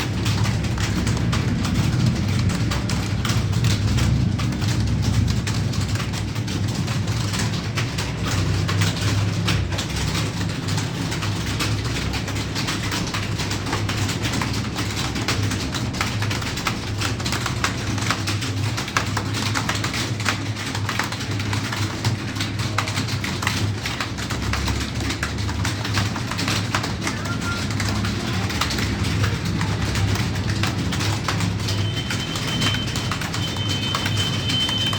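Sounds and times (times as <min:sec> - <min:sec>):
fast keyboard typing: 0:00.0 - 0:34.9.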